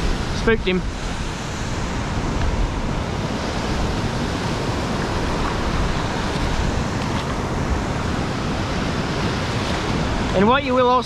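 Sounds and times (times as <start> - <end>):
surf washing over sand: 0.0 - 11.0
wind rumble on microphone: 0.0 - 11.0.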